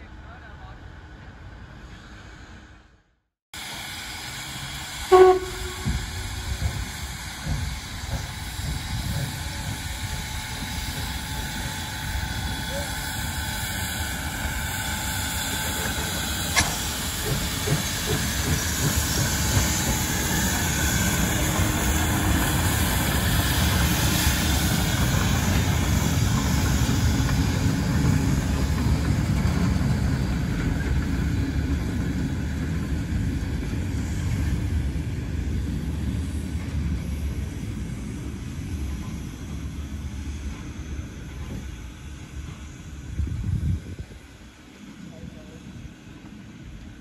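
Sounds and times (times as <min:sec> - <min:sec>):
steam hissing: 0:03.6 - 0:47.0
steam locomotive rumbling: 0:03.6 - 0:47.0.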